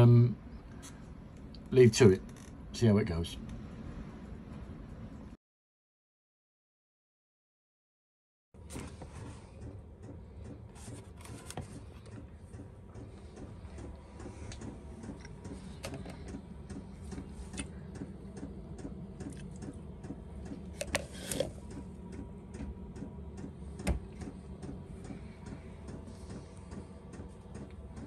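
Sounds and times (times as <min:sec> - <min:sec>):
low mechanical hum with pulse: 0:00.0 - 0:05.4, 0:08.6 - 0:28.0.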